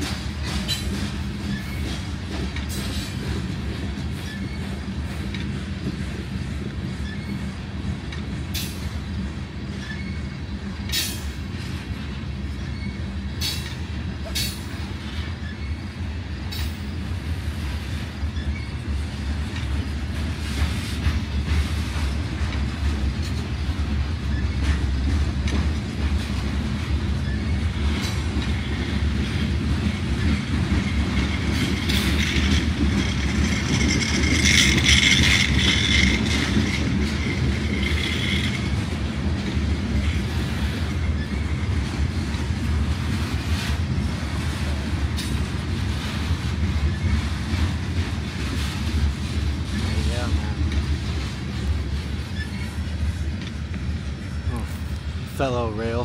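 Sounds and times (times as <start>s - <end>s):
freight train rumbling past: 0.0s - 56.0s
wheels clacking over rail joints: 0.0s - 56.0s.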